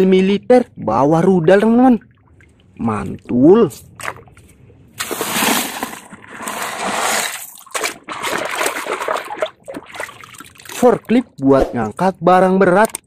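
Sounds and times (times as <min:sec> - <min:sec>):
water splashing and sloshing: 0:01.0 - 0:12.0.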